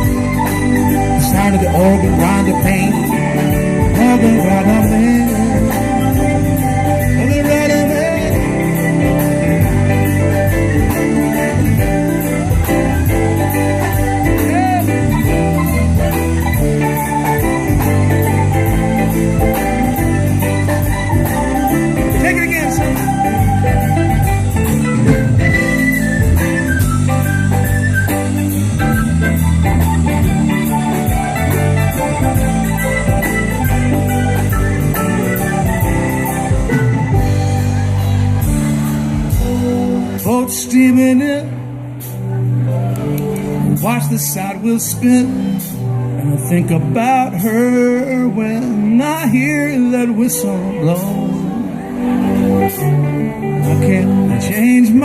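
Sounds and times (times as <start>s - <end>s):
bass: 0.0s - 55.0s
plucked guitar lines: 0.0s - 55.0s
soft rock band playing: 0.0s - 55.0s.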